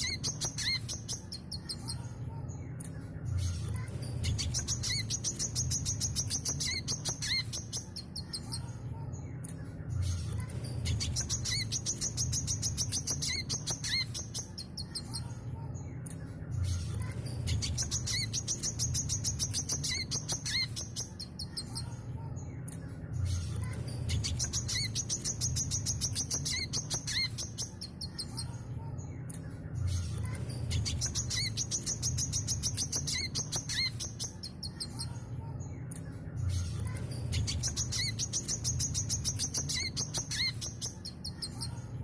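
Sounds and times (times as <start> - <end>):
bird twittering song: 0.0 - 42.0.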